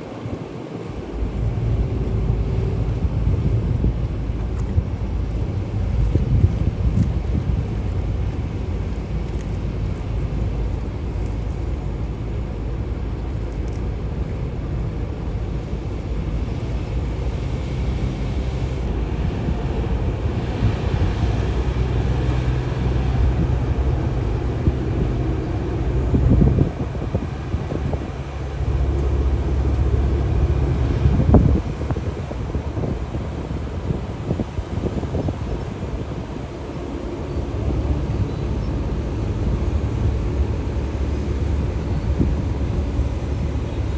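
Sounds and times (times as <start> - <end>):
ferry engine running: 0.0 - 43.9
wind noise on microphone: 0.0 - 43.9.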